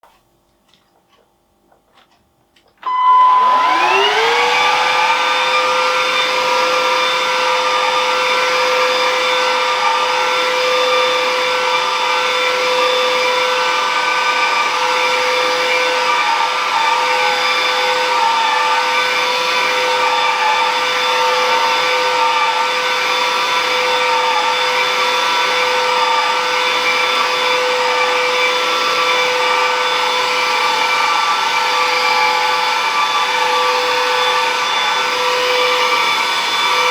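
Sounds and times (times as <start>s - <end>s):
vacuum cleaner motor whine: 2.8s - 36.9s.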